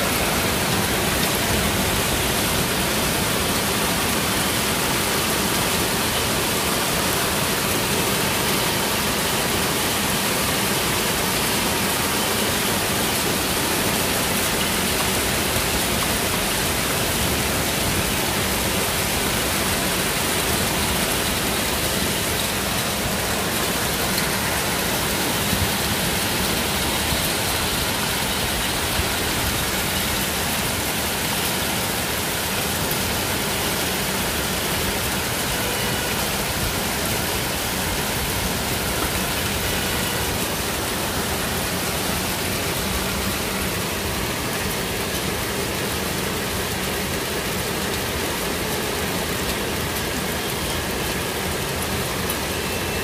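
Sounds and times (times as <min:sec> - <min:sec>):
heavy rain and hail: 0:00.0 - 0:53.0.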